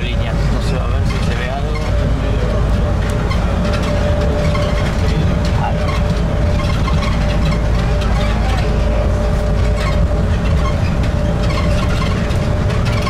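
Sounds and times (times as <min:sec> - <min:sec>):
light rattles: 0:00.0 - 0:13.0
train drive whine: 0:00.0 - 0:13.0
train rumbling: 0:00.0 - 0:13.0.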